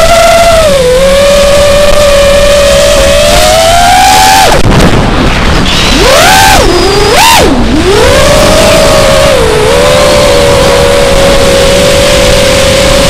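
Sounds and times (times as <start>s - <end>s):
electric motor and propeller whine: 0.0s - 13.0s
wind rumbling on microphone: 0.0s - 13.0s.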